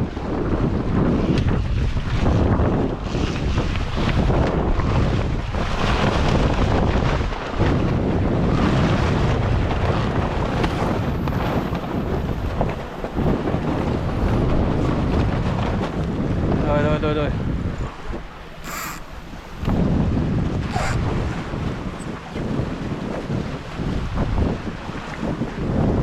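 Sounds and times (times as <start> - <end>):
water rushing along hulls: 0.0 - 26.0
wind buffeting microphone: 0.0 - 26.0.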